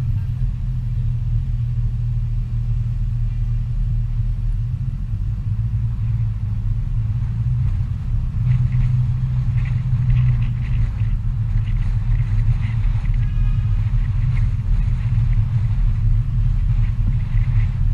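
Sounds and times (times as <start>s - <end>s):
car driving heard from inside: 0.0s - 17.9s.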